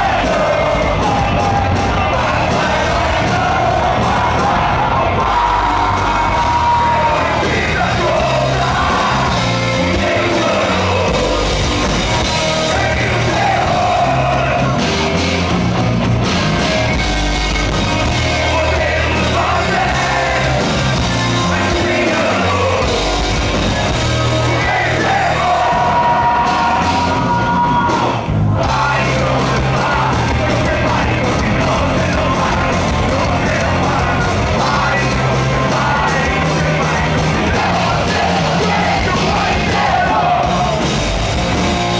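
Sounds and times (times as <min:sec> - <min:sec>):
punk band playing live: 0:00.0 - 0:41.9.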